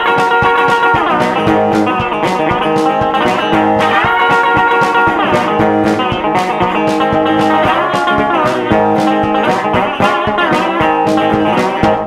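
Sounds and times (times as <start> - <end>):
slide guitar playing blues: 0.0 - 12.0
steady beat: 0.0 - 12.0.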